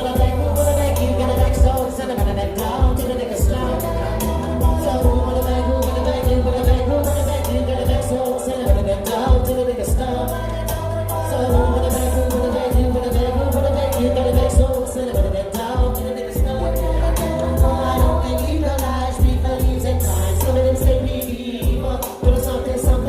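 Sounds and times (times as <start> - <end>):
heavy pulsing bass: 0.0 - 23.0
hip-hop track: 0.0 - 23.0
sung vocal melody: 0.0 - 23.0.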